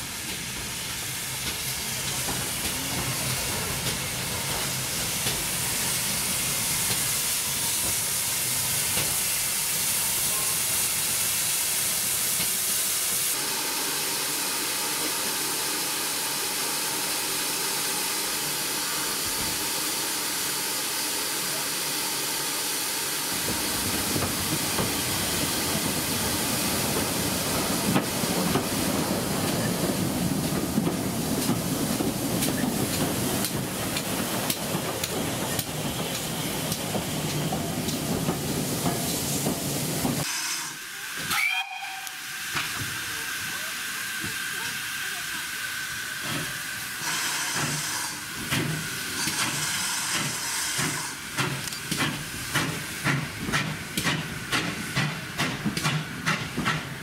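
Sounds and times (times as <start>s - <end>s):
rumble of train moving off: 0.0s - 57.0s
steam locomotive hissing: 0.0s - 57.0s.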